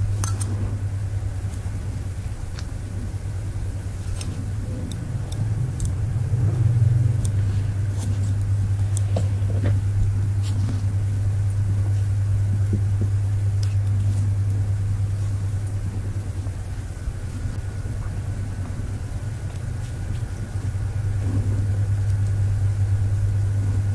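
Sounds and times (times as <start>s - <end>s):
low machine hum: 0.0s - 23.9s.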